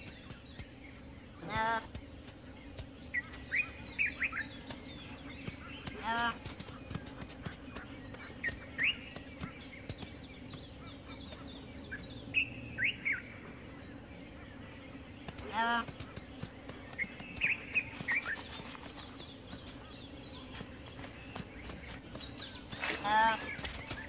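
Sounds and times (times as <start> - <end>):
steady low hum: 0.0 - 24.0
wild birds chirping: 0.0 - 24.0.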